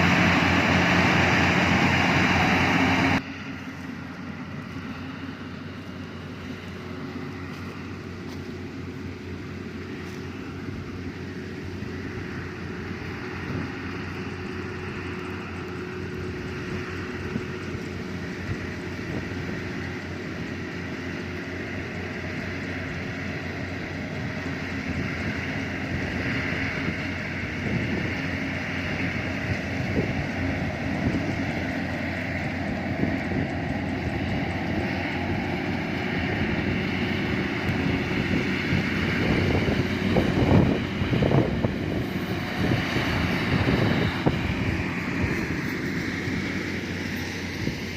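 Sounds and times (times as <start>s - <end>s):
combine harvester engine humming: 0.0s - 47.9s.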